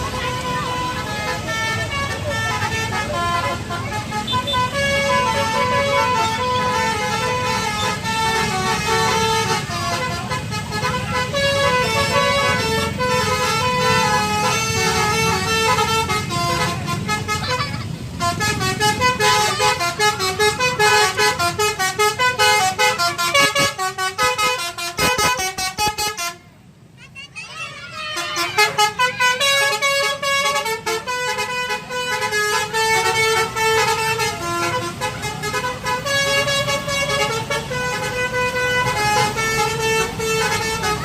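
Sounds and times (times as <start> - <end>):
multi-tone musical bus horn: 0.0 - 26.8, 27.5 - 41.0
bus engine rumble: 0.0 - 41.0.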